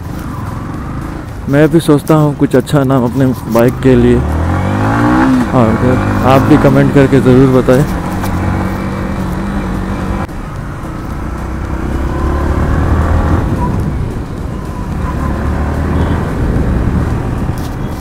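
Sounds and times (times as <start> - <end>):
motorcycle engine running: 2.7 - 18.0.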